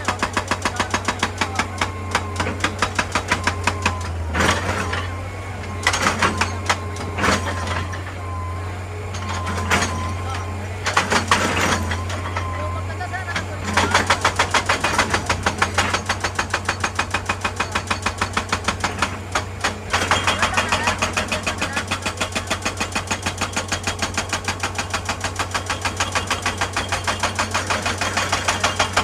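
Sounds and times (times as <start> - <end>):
hydraulic breaker hammering rock: 0.0 - 8.5, 9.1 - 29.0
diesel engine hum: 0.0 - 29.0.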